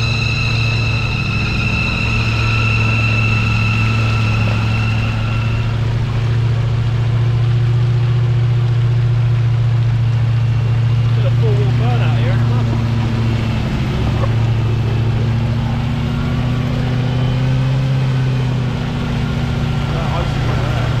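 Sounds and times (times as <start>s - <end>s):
high-pitched whine: 0.0s - 21.0s
off-road engine running: 0.0s - 21.0s.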